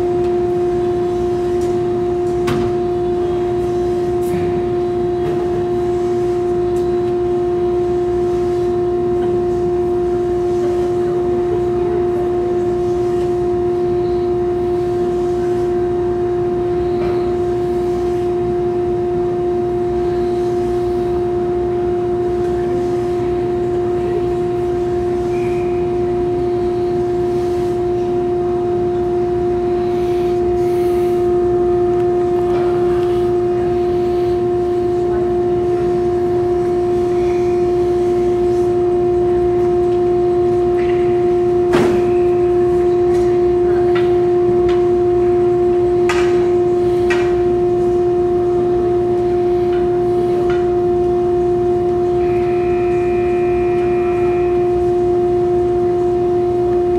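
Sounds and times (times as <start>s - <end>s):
steady droning tone: 0.0s - 56.9s.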